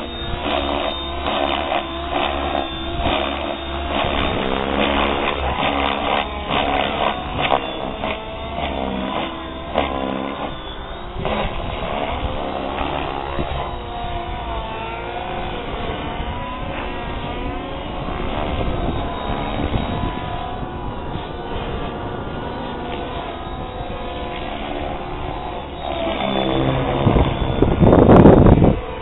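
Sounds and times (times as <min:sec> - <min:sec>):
rc helicopter motor whine: 0:00.0 - 0:29.0.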